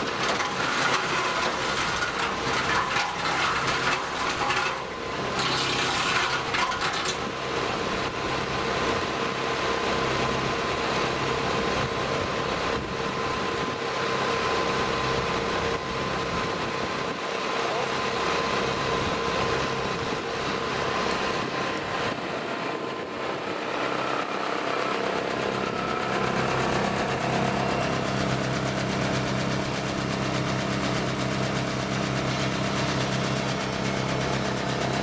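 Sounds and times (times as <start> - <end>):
tractor engine driving wood chipper: 0.0 - 35.0.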